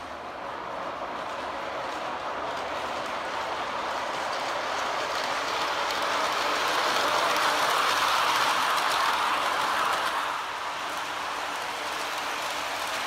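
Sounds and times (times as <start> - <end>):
model train wheels and motors whirring: 0.0 - 13.0.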